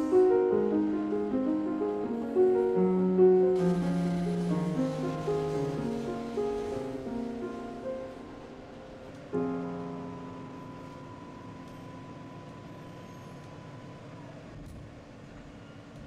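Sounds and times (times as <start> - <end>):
piano-like chord ringing: 0.0 - 14.4
subway car rumble: 0.0 - 16.0.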